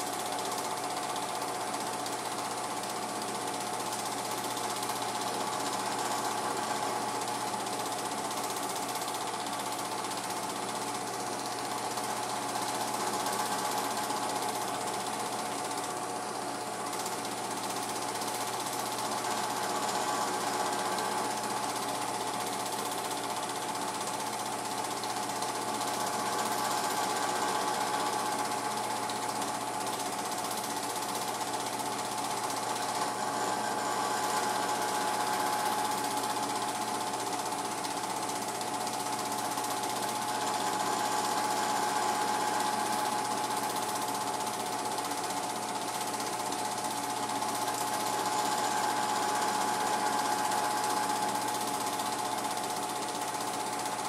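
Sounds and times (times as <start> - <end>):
film projector clatter: 0.0 - 54.0
projector whine: 0.0 - 54.0.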